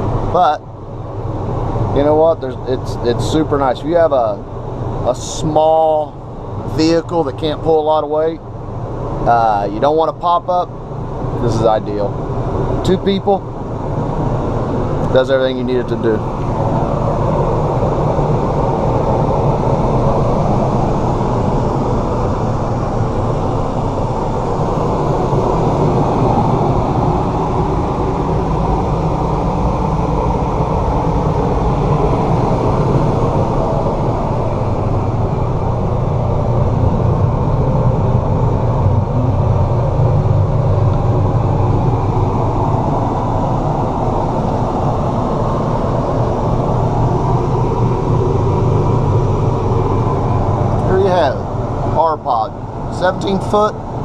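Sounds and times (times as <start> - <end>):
air conditioner fan humming: 0.0 - 54.0.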